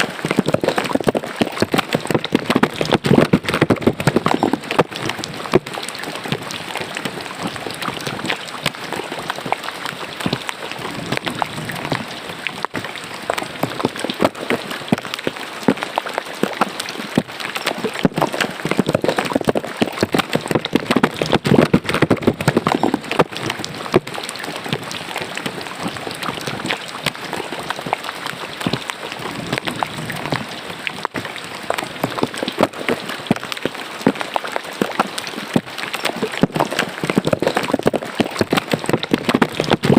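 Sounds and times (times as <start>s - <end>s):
rain pattering on water: 0.0s - 39.9s.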